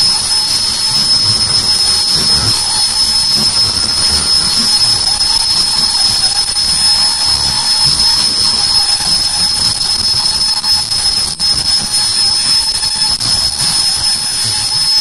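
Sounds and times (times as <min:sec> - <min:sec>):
machine high-pitched whine: 0:00.0 - 0:15.0.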